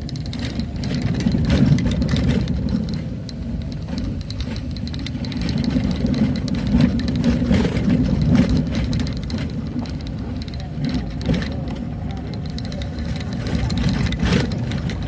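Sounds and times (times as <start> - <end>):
knocks and rattles from road: 0.0 - 15.0
vehicle engine running: 0.0 - 15.0.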